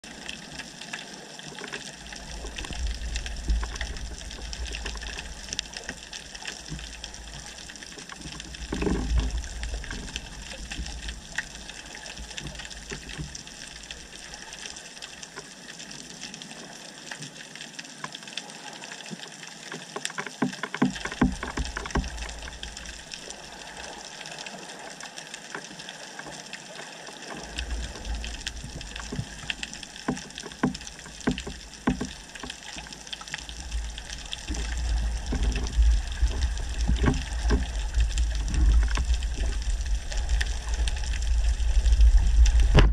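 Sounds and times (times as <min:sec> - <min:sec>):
rumbling surges of water: 0:00.0 - 0:42.9
crackling clicks: 0:00.1 - 0:16.5, 0:17.1 - 0:42.9.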